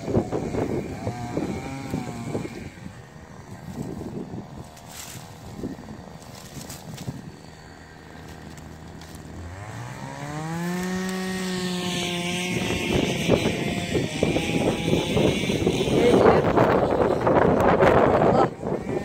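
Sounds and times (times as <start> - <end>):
dry branches rustling: 0.0 - 18.0
engine rising in pitch: 0.0 - 19.0.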